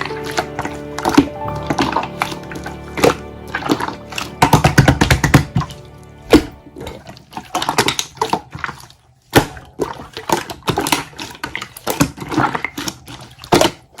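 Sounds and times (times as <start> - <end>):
slime squished by hand: 0.0 - 14.0.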